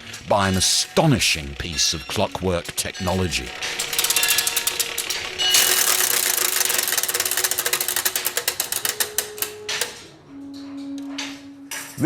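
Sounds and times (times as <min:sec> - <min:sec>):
clockwork gears clattering: 0:00.0 - 0:10.1.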